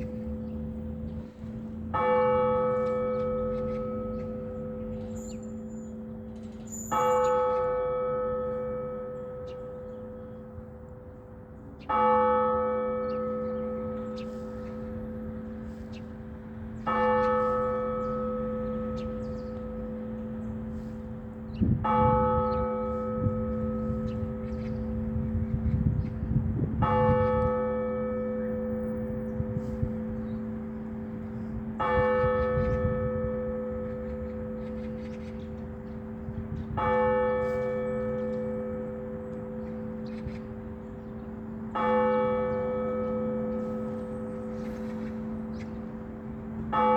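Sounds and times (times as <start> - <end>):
large church bell ringing: 0.0 - 46.9.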